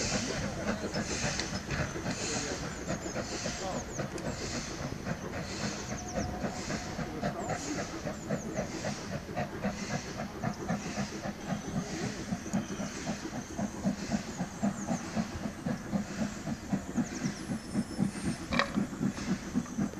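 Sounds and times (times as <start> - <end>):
steam hissing: 0.0 - 19.9
steam locomotive exhaust chuffs: 0.0 - 19.9.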